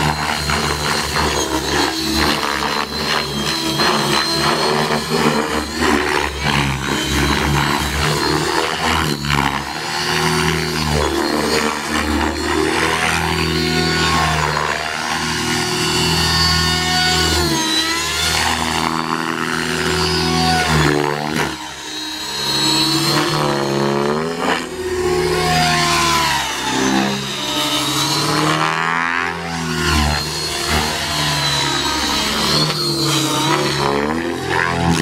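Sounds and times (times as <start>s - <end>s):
rc helicopter motor and rotor whine: 0.0s - 35.0s.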